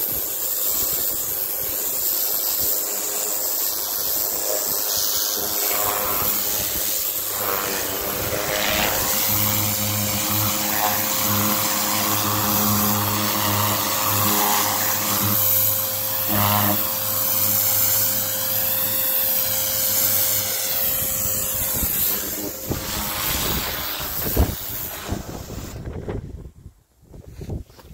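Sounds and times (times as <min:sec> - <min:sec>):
pressure washer pump hum: 0:00.0 - 0:25.9
water jet hissing on concrete: 0:00.0 - 0:26.2.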